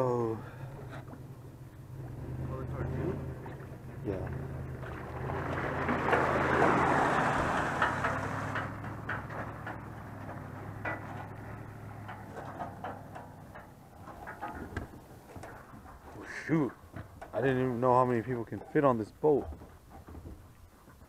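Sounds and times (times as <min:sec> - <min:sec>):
boat motor humming: 0:00.0 - 0:17.4.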